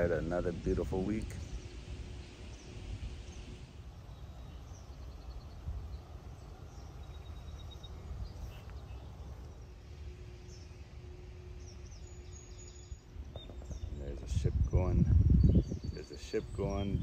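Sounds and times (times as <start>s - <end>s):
songbirds chirping: 0.0s - 17.0s
steady low rumble: 0.0s - 17.0s.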